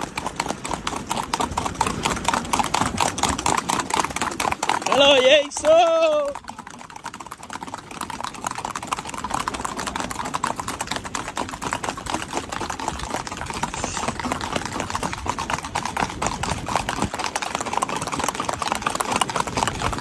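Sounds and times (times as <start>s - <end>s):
horse hooves clattering on pavement: 0.0s - 20.0s.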